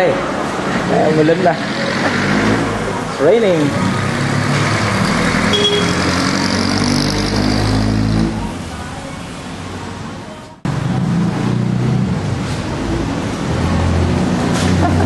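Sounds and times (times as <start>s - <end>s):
vehicle on wet road: 0.0s - 15.0s.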